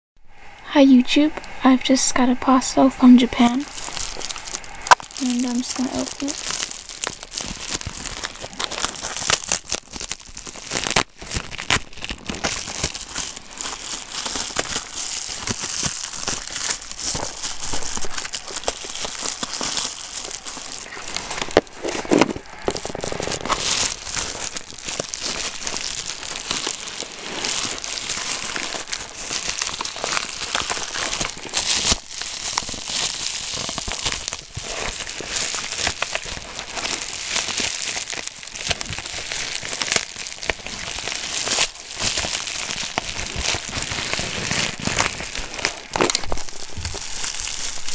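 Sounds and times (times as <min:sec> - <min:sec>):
plastic packaging crinkling: 0:03.0 - 0:47.9.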